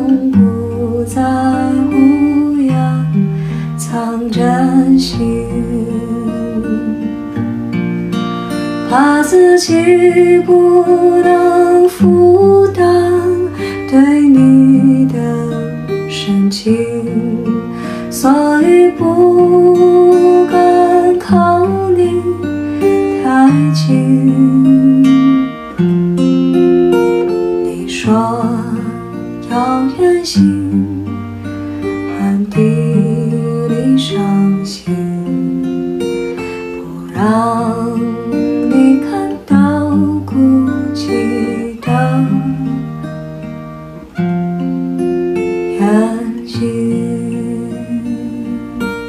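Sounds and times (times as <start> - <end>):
woman singing a slow ballad: 0.0 - 7.4, 8.5 - 25.8, 26.8 - 43.1, 45.0 - 49.0
acoustic guitar chords: 0.0 - 49.0.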